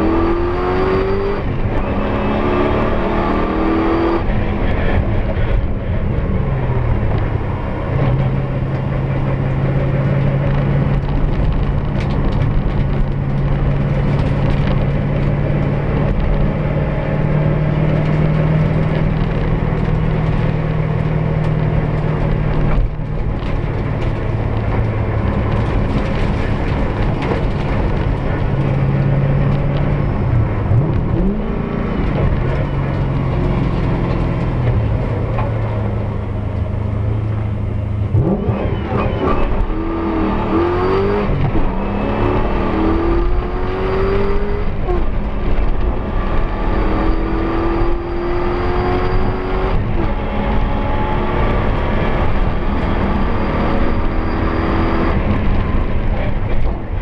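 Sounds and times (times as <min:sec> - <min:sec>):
car engine revving: 0:00.0 - 0:57.0
tyre and road noise on dirt: 0:00.0 - 0:57.0.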